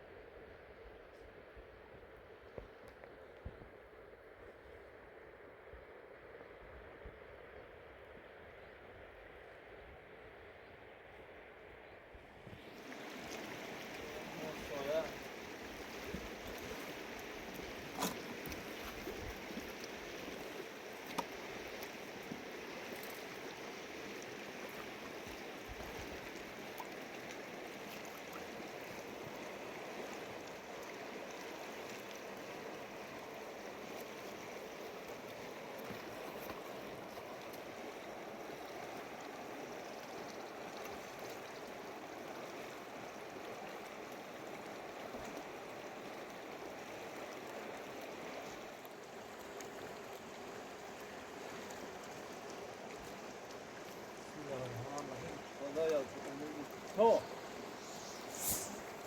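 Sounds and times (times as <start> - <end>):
mountain river flowing: 0.0 - 59.0.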